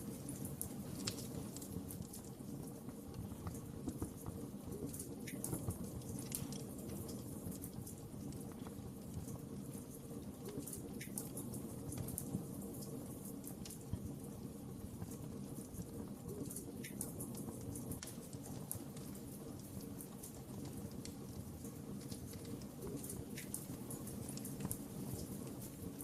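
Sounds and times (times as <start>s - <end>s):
low rumble of flames: 0.0s - 26.0s
wood fire crackling: 0.0s - 26.0s.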